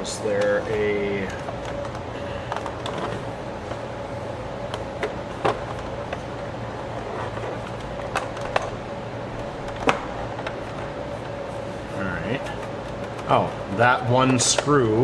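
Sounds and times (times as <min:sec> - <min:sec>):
low hum: 0:00.0 - 0:13.8.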